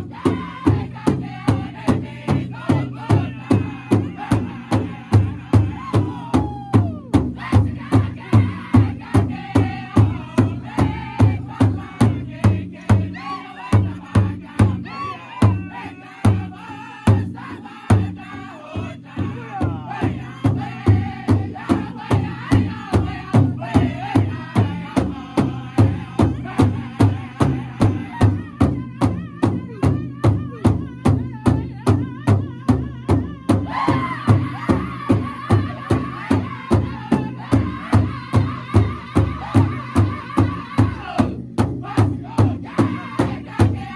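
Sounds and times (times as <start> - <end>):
large drum beating: 0.0 - 43.9
singers chanting: 0.0 - 43.9.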